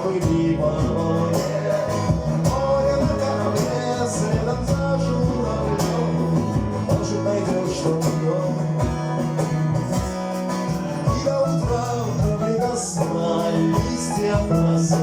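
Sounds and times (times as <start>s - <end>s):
bass line: 0.0s - 15.0s
plucked guitar melody: 0.0s - 15.0s
steady drum beat: 0.0s - 15.0s.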